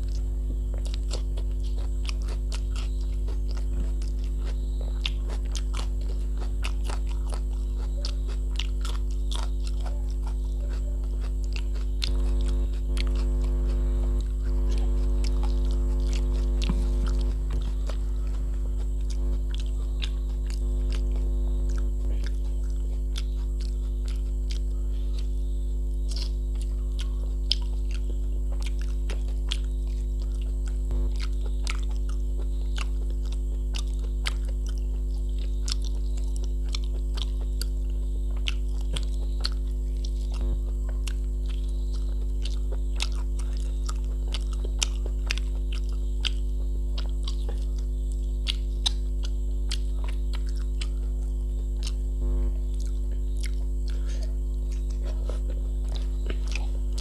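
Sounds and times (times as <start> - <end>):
chewing and wet mouth sounds: 0.0 - 57.0
cucumber crunching: 0.0 - 57.0
electrical hum: 0.0 - 57.0.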